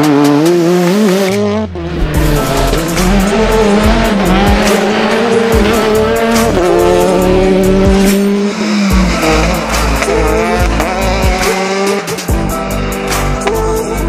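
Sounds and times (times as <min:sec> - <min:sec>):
engine crackles: 0:00.0 - 0:13.6
rally car engine revving hard: 0:00.0 - 0:13.6
background music: 0:00.0 - 0:14.0.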